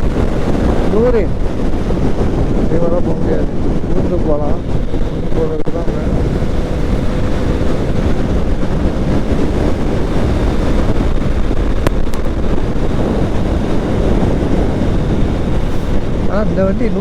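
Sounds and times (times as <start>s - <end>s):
motorcycle road and engine noise: 0.0s - 17.0s
wind buffeting microphone: 0.0s - 17.0s.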